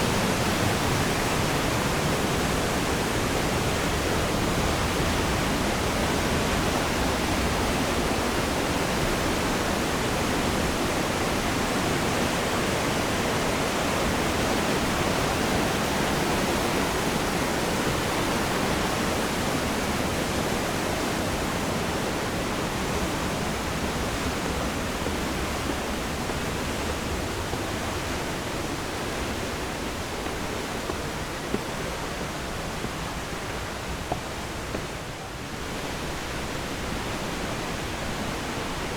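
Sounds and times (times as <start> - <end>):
fast-flowing water rushing: 0.0 - 38.9.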